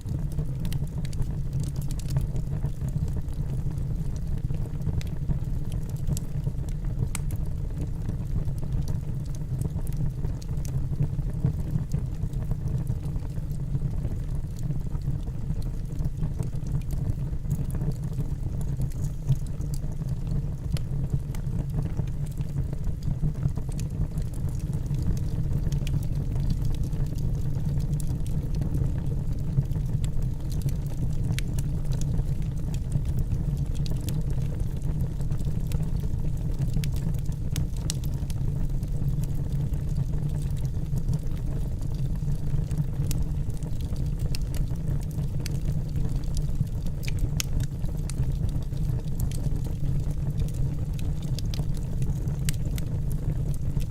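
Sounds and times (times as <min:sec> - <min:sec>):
low rumble of flames: 0:00.0 - 0:53.9
logs crackling and popping: 0:00.1 - 0:53.9.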